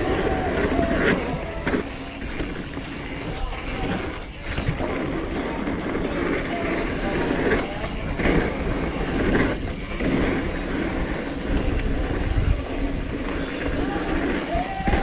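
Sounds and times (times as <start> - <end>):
bike rattling: 0.0 - 15.0
tyres rumbling over dirt: 0.0 - 15.0
wind buffeting microphone: 0.0 - 15.0.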